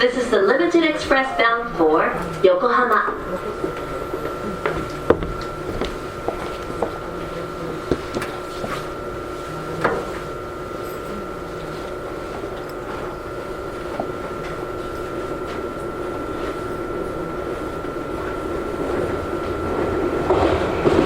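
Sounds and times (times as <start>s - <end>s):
electrical equipment hum: 0.0s - 21.0s
high whine: 0.0s - 21.0s.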